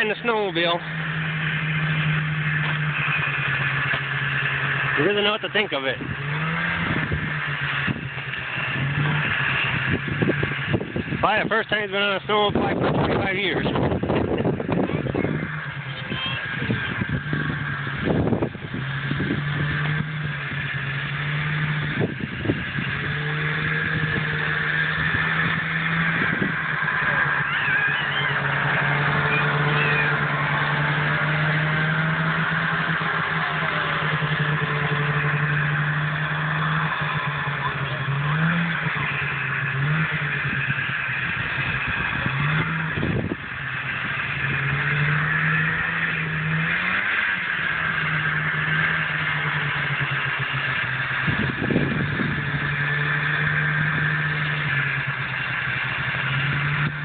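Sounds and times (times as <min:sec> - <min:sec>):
snowmobile engine droning: 0:00.0 - 0:57.0.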